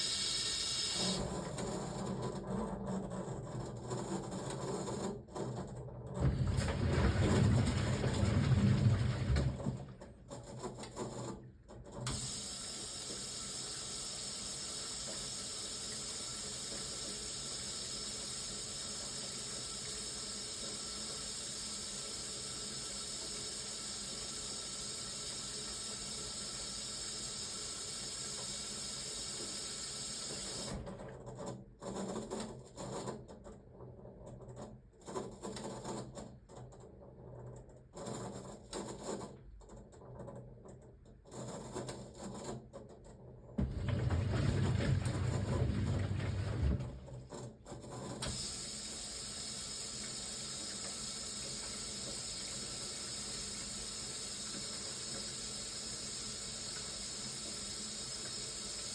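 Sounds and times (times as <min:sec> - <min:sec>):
water rushing into washing machine: 0:00.0 - 0:33.2, 0:43.2 - 0:58.9.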